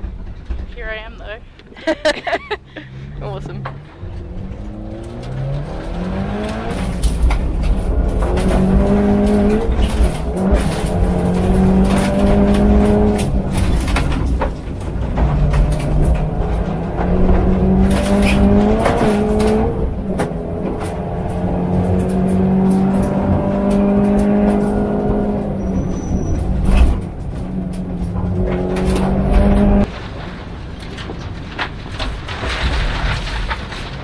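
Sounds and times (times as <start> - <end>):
rally car engine pulling hard: 1.8 - 34.0
gravel knocking under car: 3.3 - 34.0.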